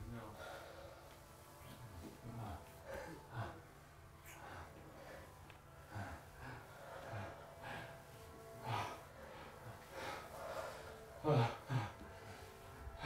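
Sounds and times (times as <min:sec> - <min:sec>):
person breathing and gasping: 0:02.3 - 0:13.0.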